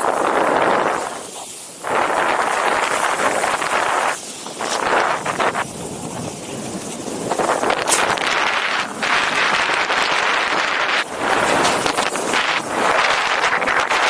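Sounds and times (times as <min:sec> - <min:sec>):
snowboard edges scraping snow: 0:00.0 - 0:14.0.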